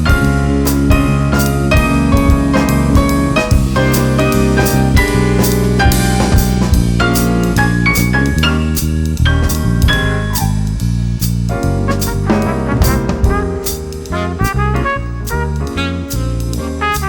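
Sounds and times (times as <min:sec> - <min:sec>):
drum kit beat: 0:00.0 - 0:17.0
jazz band playing: 0:00.0 - 0:17.0
piano: 0:00.0 - 0:17.0.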